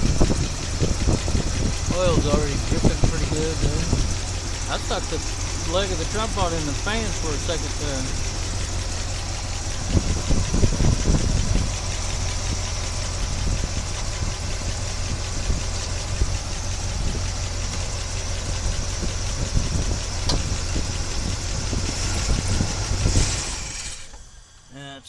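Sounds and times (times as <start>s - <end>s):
engine knocks: 0.0s - 24.2s
car engine idling: 0.0s - 24.8s.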